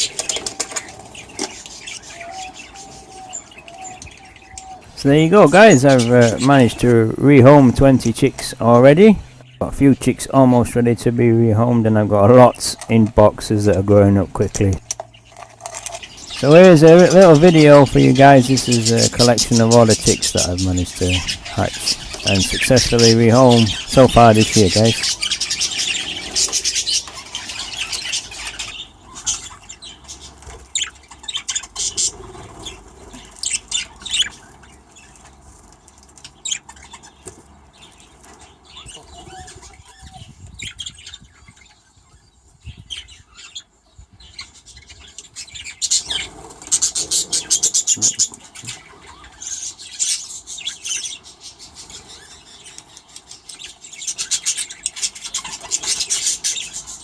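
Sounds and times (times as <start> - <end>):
budgerigars chattering and squawking: 0.0 - 57.0.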